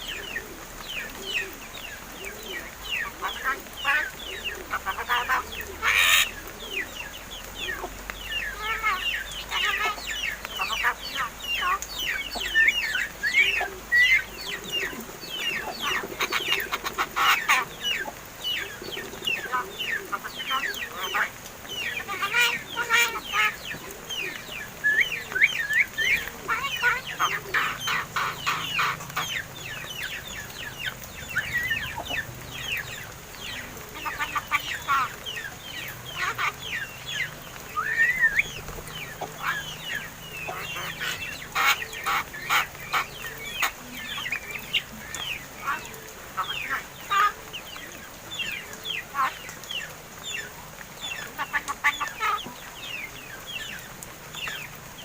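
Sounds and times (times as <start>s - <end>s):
birds squawking and chirping: 0.0s - 55.0s.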